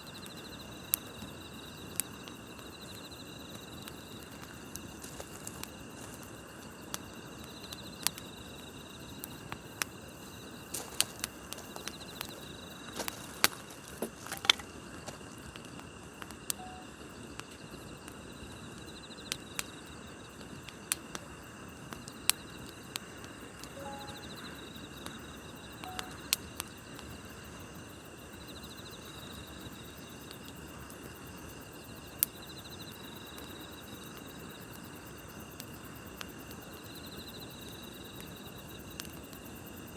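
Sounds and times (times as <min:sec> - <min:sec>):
campfire crackling and popping: 0:00.0 - 0:39.9
grass insects trilling: 0:00.0 - 0:39.9.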